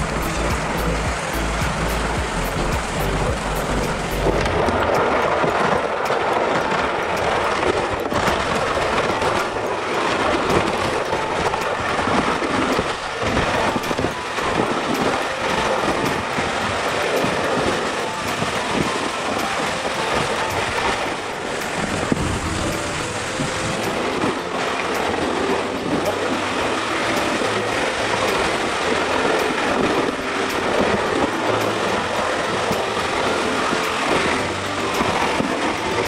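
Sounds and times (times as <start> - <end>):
sled scraping over ice and snow: 0.0 - 36.0.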